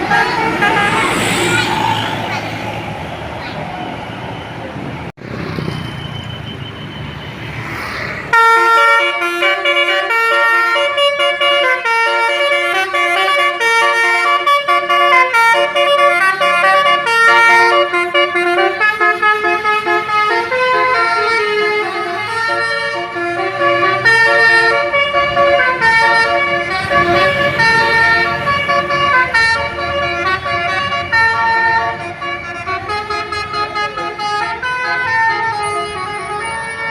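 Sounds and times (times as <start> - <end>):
multi-tone bus horn melody: 0.0 - 2.2, 8.3 - 36.9
engine noise: 0.0 - 10.9, 12.6 - 36.9
traffic noise: 0.0 - 36.9.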